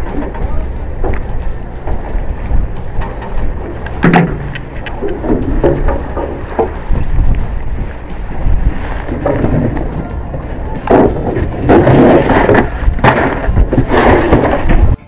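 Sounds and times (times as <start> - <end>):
low rumble: 0.0 - 15.0
wind on camera: 0.0 - 15.0.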